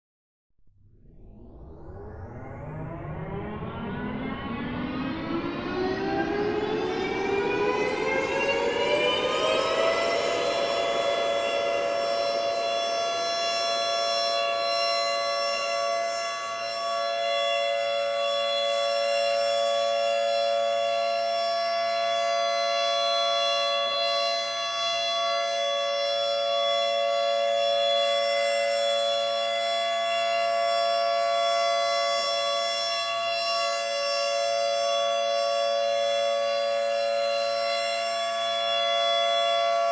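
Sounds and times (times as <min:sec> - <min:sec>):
air-raid siren wailing: 0:00.9 - 0:39.9.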